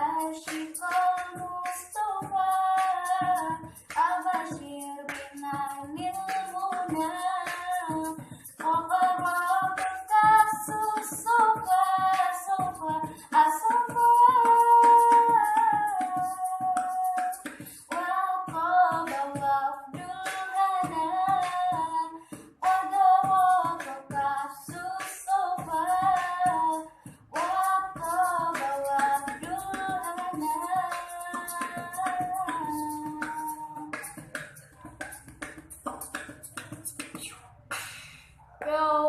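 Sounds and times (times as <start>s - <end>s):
woman singing: 0.0s - 37.4s, 38.6s - 39.0s
beatboxed rhythm: 0.0s - 38.8s.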